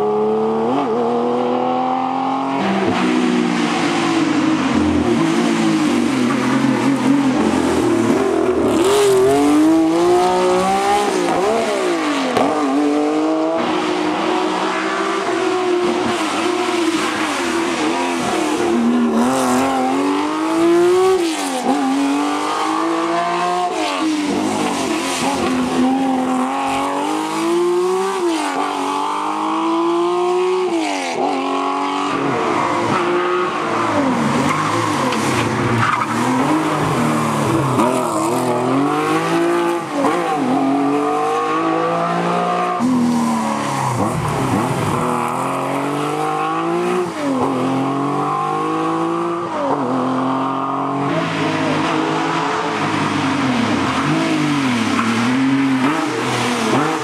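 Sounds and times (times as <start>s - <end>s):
car engines revving and shifting: 0.0s - 57.0s.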